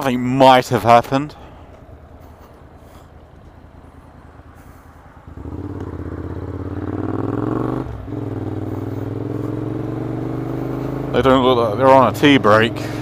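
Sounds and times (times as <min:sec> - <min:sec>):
motorcycle engine accelerating: 0:01.7 - 0:13.0.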